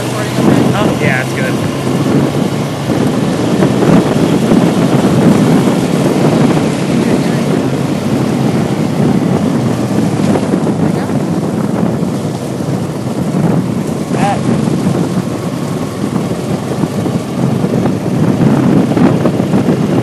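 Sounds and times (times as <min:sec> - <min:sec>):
atv engine running: 0:00.0 - 0:20.0
wind buffeting microphone: 0:00.0 - 0:20.0.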